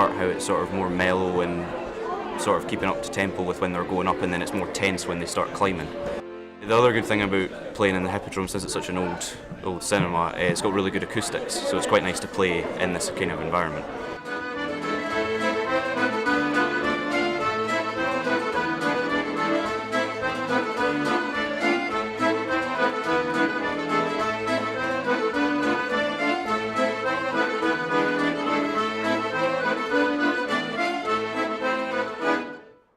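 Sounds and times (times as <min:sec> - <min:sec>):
lively accordion band music: 0:00.0 - 0:32.8.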